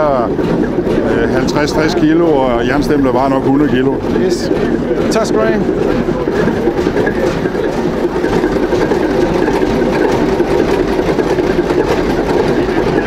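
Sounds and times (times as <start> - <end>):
engine running with mechanical clatter: 0.0 - 13.0.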